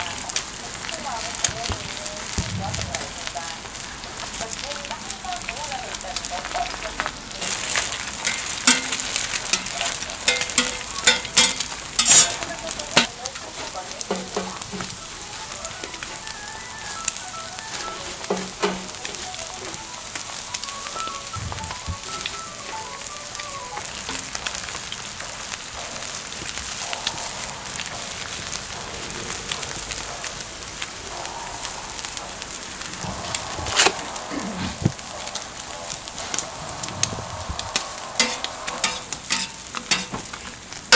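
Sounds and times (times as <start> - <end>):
burger patties sizzling on griddle: 0.0 - 40.9.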